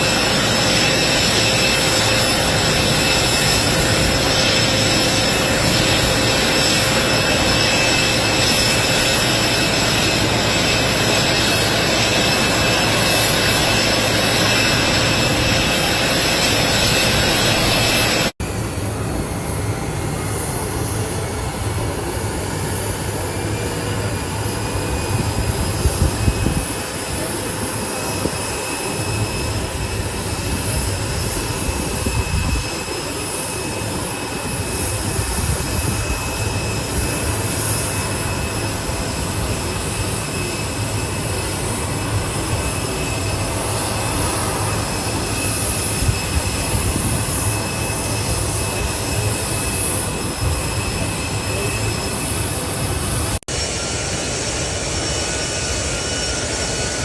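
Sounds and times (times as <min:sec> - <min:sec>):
jet engine noise: 0:00.0 - 0:57.0.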